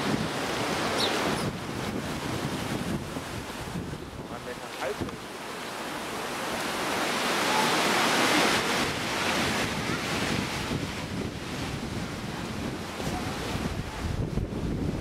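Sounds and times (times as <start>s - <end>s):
wind gust rushing: 0.0s - 15.0s.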